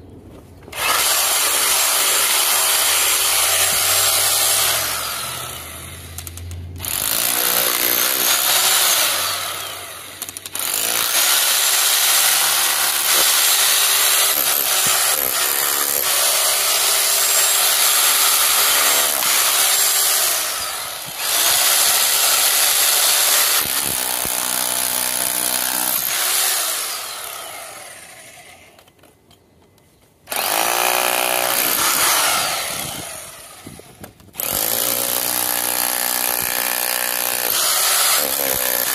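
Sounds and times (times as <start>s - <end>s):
hammer drill pounding concrete: 0.7s - 28.7s, 30.3s - 38.9s.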